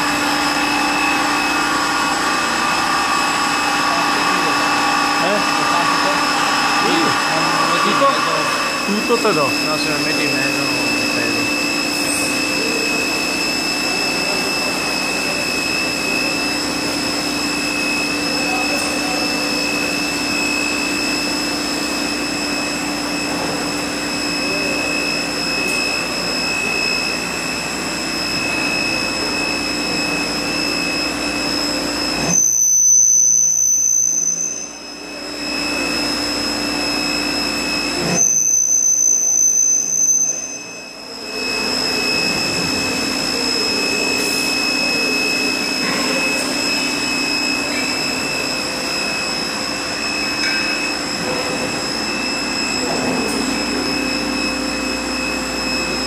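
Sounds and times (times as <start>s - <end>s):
drilling and sawing machine humming: 0.0s - 56.0s
loud high-pitched machine whine: 0.0s - 56.0s.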